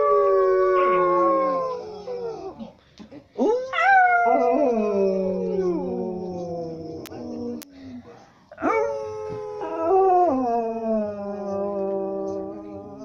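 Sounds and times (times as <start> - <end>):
dog howling: 0.0 - 2.6, 3.4 - 7.6, 8.6 - 13.0.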